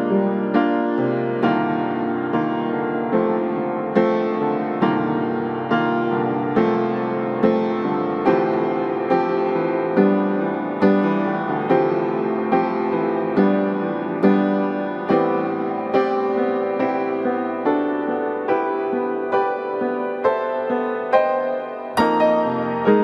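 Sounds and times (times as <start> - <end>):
piano notes and chords: 0.0 - 23.0.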